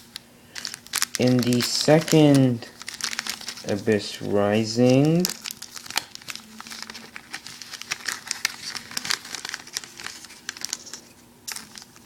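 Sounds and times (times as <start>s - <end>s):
faint steady hum: 0.0s - 12.0s
foil wrapper crinkling and tearing: 0.0s - 12.0s.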